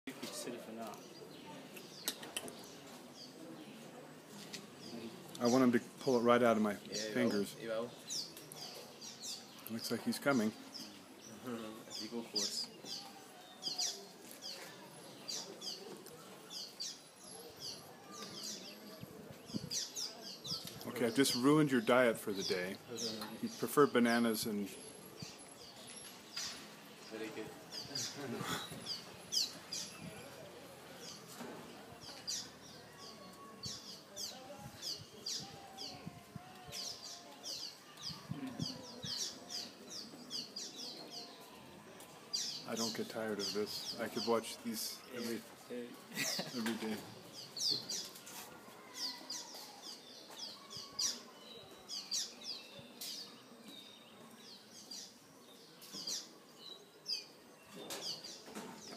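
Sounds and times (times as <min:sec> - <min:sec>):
small birds chirping: 0:00.1 - 0:58.9.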